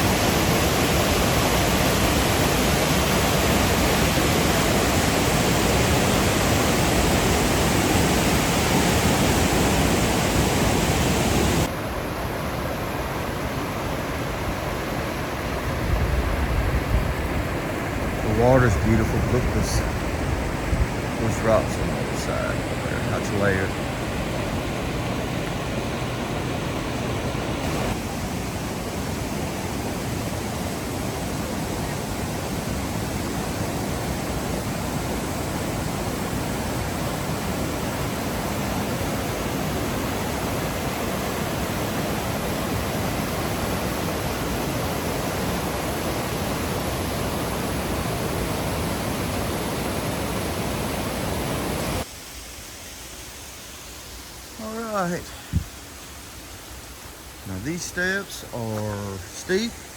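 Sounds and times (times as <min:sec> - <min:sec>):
waterfall rushing: 0:00.0 - 0:16.4, 0:17.1 - 0:59.9.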